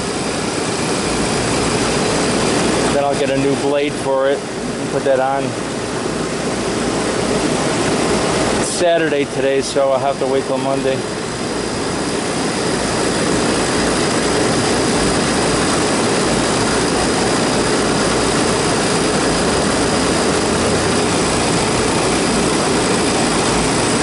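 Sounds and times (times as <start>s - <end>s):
faint high whine: 0.0s - 24.0s
machine droning: 0.0s - 24.0s.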